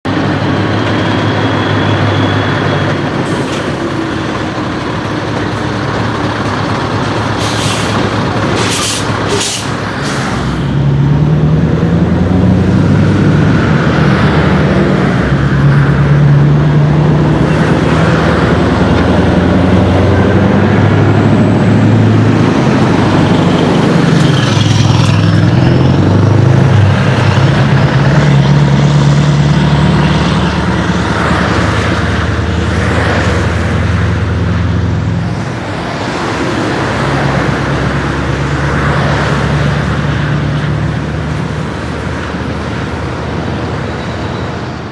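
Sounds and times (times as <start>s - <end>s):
diesel truck driving past: 0.1s - 44.9s.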